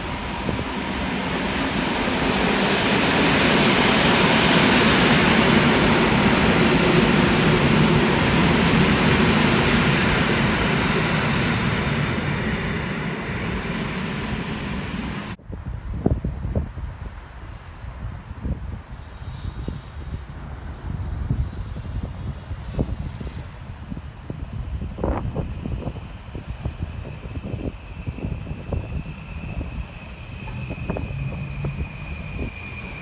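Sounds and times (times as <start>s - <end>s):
train wheels rumbling on rails: 0.0s - 17.1s, 18.3s - 33.0s.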